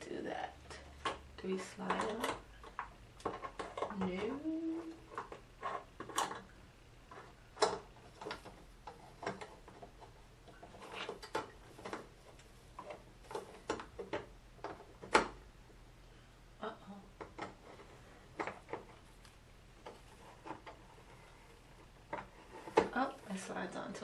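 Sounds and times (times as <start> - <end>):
plastic parts clicking and knocking: 0.6 - 15.5, 17.2 - 23.2.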